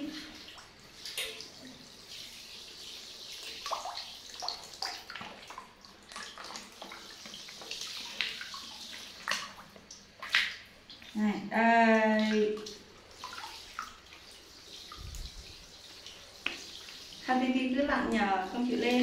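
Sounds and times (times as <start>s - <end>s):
shower spraying into water: 0.0s - 11.2s, 11.9s - 19.0s
small water splashes: 0.0s - 19.0s.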